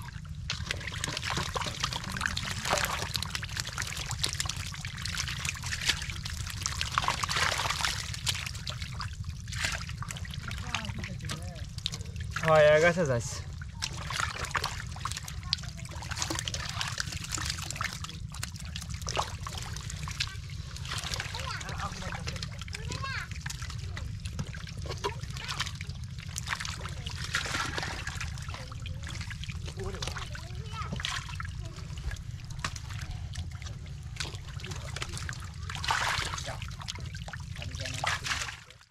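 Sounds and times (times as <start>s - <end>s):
muddy water sloshing: 0.0s - 38.9s
small wet clicks and splashes: 0.0s - 38.9s
steady low rumble: 0.0s - 38.9s.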